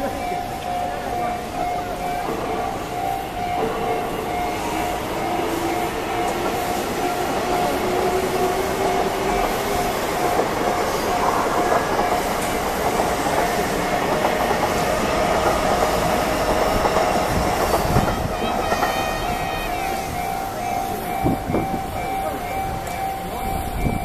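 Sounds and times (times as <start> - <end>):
level crossing warning bell: 0.0 - 24.0
train wheels clattering over rails: 0.0 - 24.0.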